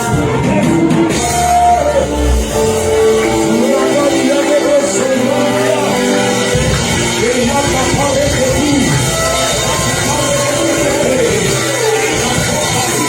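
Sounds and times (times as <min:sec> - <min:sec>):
instrumental backing: 0:00.0 - 0:13.0
person singing worship melody: 0:01.1 - 0:12.7.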